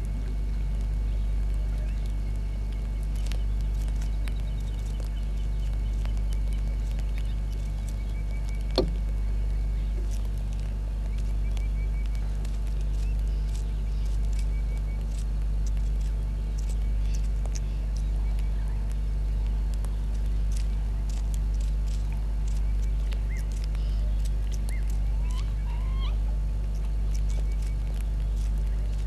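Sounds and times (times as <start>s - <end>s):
pulsing low hum: 0.0s - 29.0s
bird calls: 1.0s - 21.1s, 21.9s - 29.0s.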